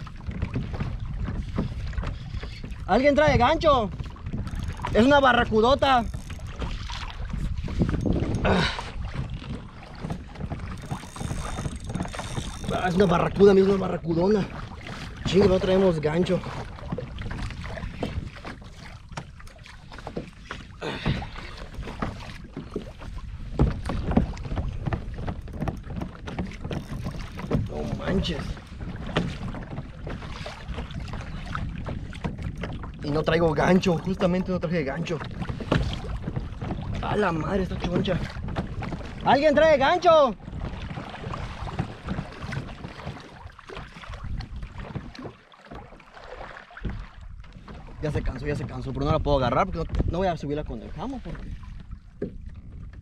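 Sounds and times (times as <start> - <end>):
wind on microphone: 0.0 - 45.3, 46.8 - 53.0
small waves lapping against kayak: 0.0 - 53.0.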